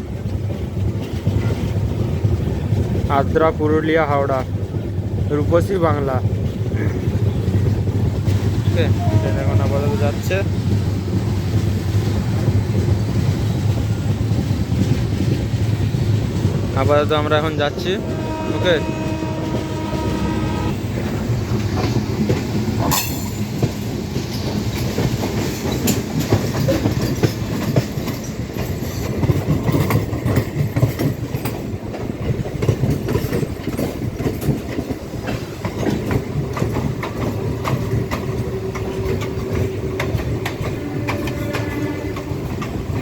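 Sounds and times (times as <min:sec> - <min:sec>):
train rumble: 0:00.0 - 0:43.0
wheels clicking over rail joints: 0:00.1 - 0:43.0.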